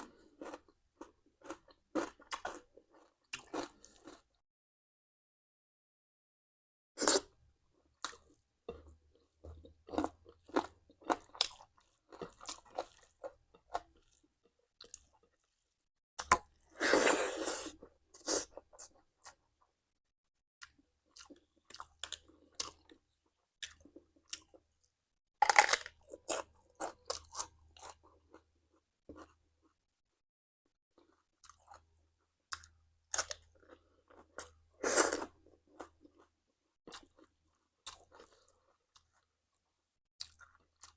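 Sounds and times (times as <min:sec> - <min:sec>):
person chewing and crunching food: 0:00.0 - 0:04.4, 0:07.0 - 0:19.8, 0:20.6 - 0:29.8, 0:30.8 - 0:40.9.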